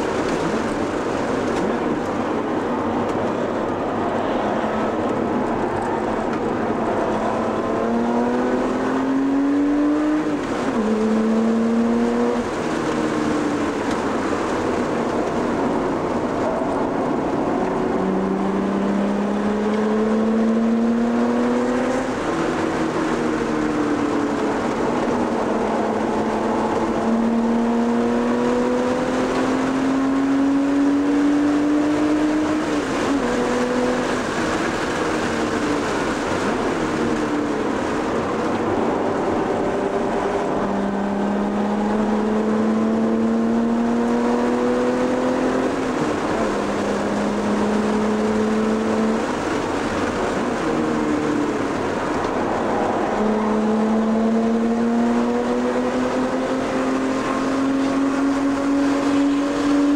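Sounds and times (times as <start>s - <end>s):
car engine accelerating hard: 0.0s - 59.9s
tyre and road noise: 0.0s - 59.9s.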